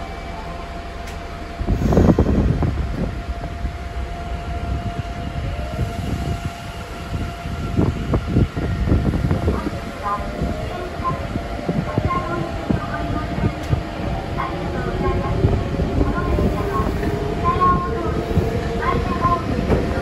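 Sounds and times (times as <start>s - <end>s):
train rumbling inside car: 0.0s - 20.0s.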